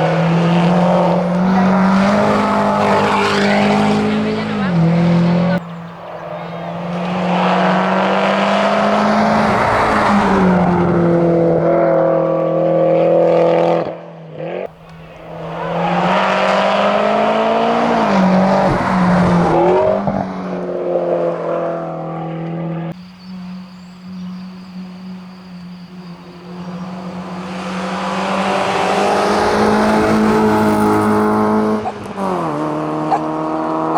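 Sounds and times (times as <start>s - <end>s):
rally car engine revving: 0.0s - 33.9s.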